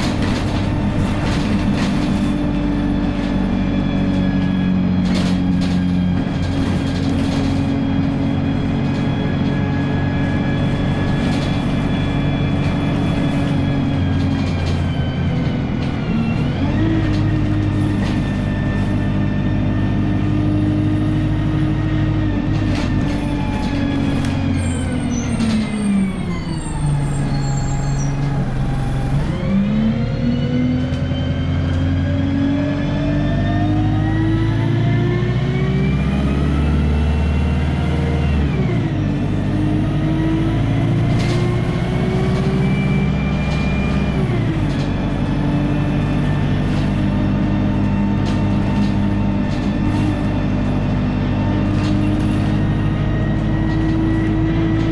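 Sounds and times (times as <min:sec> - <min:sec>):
bus diesel engine: 0:00.0 - 0:54.9.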